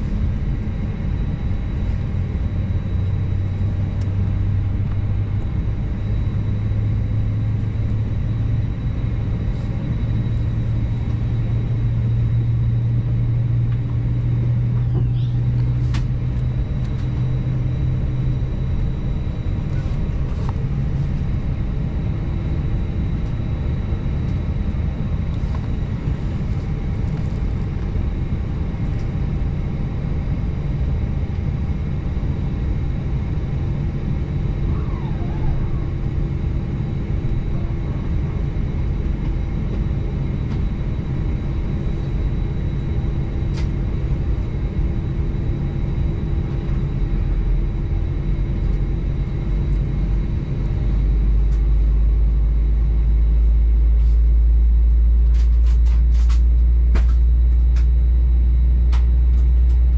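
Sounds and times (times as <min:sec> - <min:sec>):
airliner cabin rumble: 0:00.0 - 0:59.9
low hum: 0:00.0 - 0:59.9.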